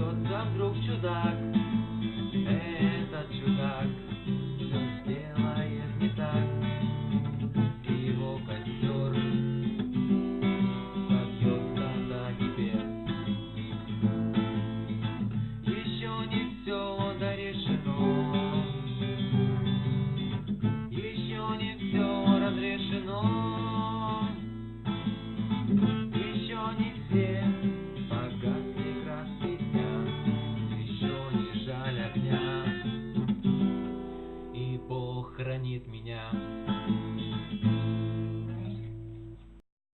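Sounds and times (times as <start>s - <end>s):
acoustic guitar strumming: 0.0s - 39.6s.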